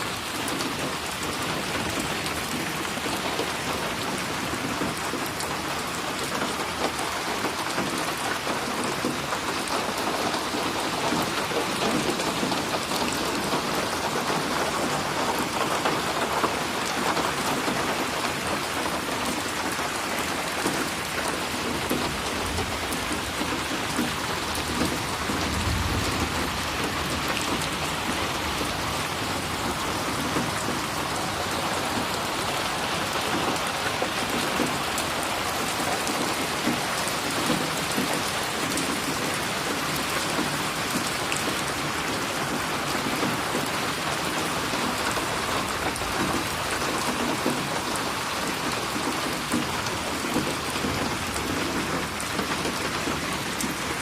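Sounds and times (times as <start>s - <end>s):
rain drops splashing on a surface: 0.0s - 54.0s.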